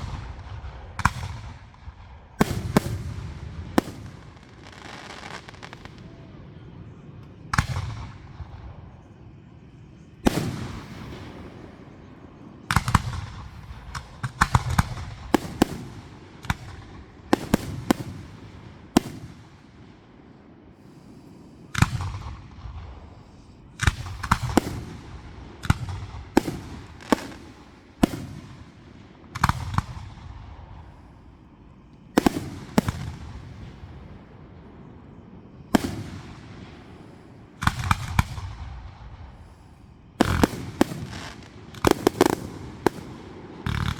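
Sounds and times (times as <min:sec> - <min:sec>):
fireworks bangs with rolling echo: 0:00.0 - 0:43.9.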